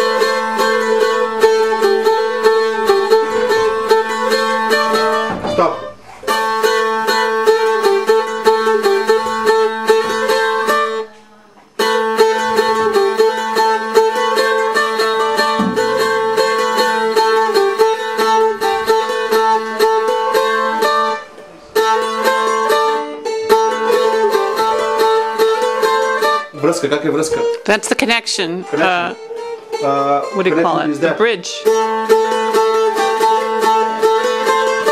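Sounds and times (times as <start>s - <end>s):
plucked lute melody: 0.0s - 34.9s.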